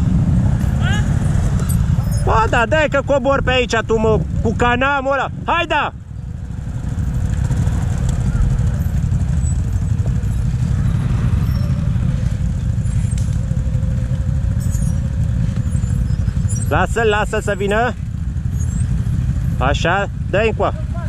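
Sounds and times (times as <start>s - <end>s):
quad engine running at low revs: 0.0s - 21.0s.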